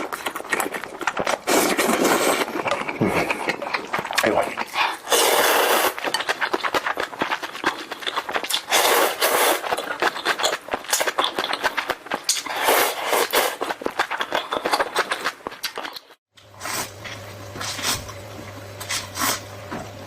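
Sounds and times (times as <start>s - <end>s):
noodle slurping: 0.0s - 18.2s, 18.8s - 19.5s
wet chewing: 0.0s - 19.9s.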